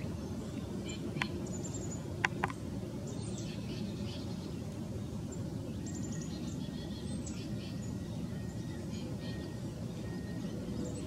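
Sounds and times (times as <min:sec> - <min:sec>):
birds chirping and calling: 0:00.0 - 0:11.0
low background rumble: 0:00.0 - 0:11.0.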